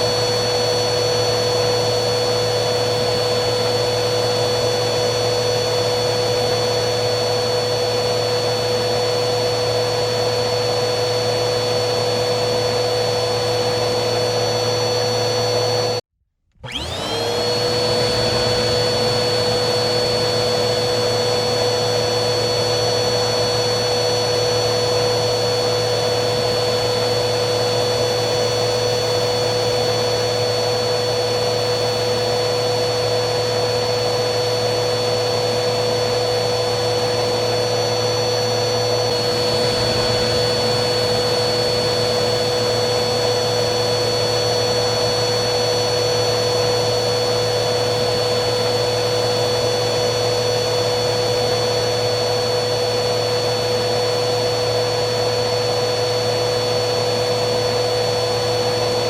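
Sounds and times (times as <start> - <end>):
vacuum cleaner motor whining: 0.0 - 59.0.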